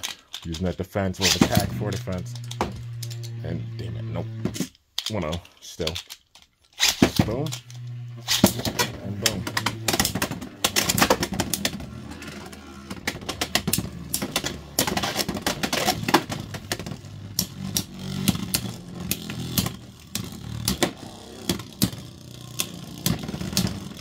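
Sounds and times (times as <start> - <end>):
low whir of spinning: 1.2 - 4.6, 7.2 - 24.0.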